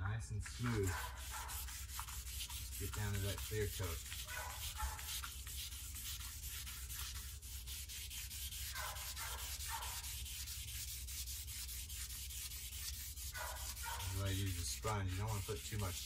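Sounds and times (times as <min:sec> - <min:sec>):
wet sanding by hand: 0:00.4 - 0:16.0.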